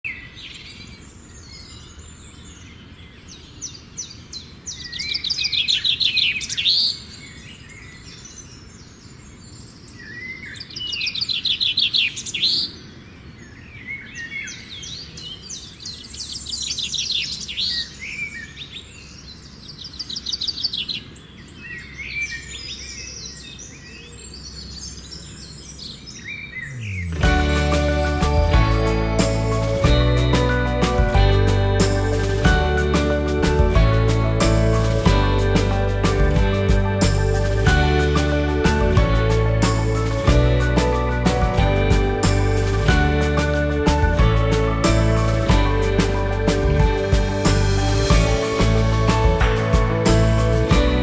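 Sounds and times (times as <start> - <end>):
birds singing trills and chirps: 0.0 - 49.4.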